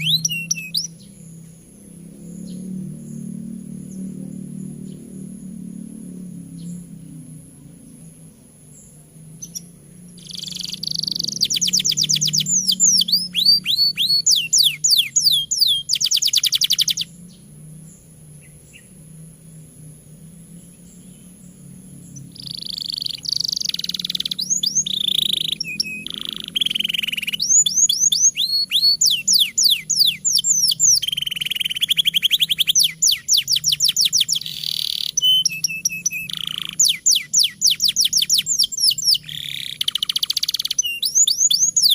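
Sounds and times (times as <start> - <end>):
canary singing: 0.0 - 41.9.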